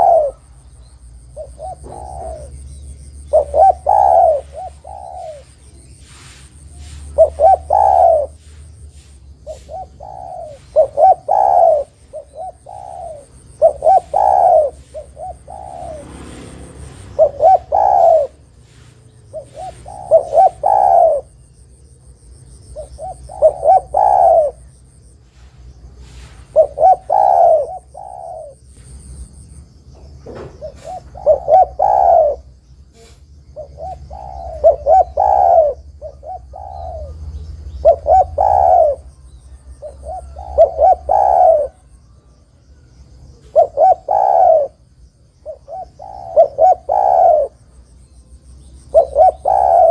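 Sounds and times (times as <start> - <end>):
dove cooing: 0.0 - 21.6, 22.6 - 29.1, 30.1 - 47.7, 48.3 - 49.9.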